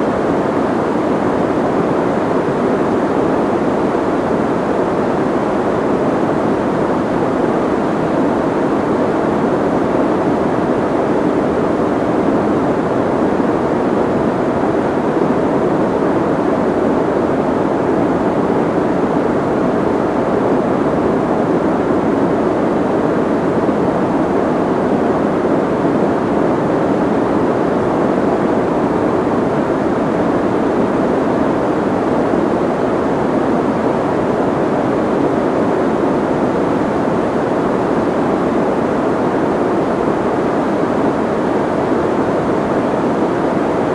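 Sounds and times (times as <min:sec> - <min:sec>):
soft white noise: 0:00.0 - 0:43.9.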